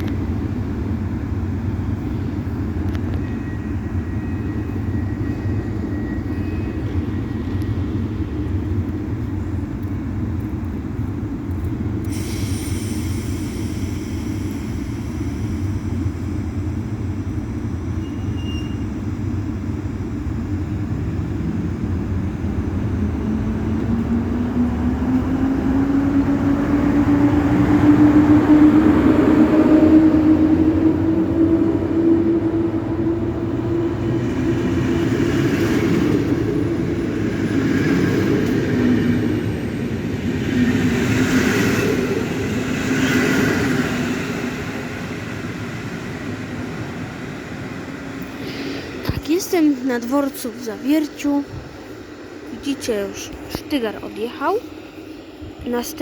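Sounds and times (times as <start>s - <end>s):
train whine: 0.0s - 56.0s
train carriages rumbling: 0.1s - 56.0s.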